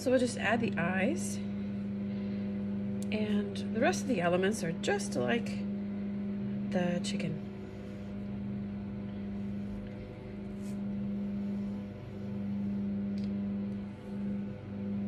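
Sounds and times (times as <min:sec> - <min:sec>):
low droning tone: 0:00.0 - 0:15.0.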